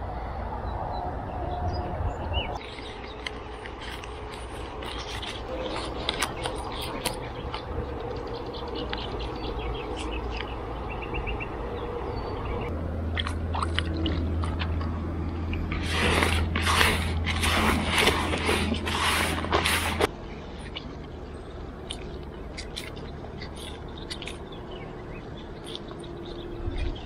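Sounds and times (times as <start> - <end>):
hands squelching wet bait mix: 2.6 - 10.8, 12.9 - 27.0.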